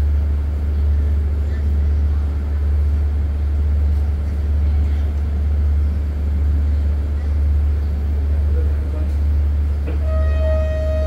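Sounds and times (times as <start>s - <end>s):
diesel train idling: 0.0s - 11.0s.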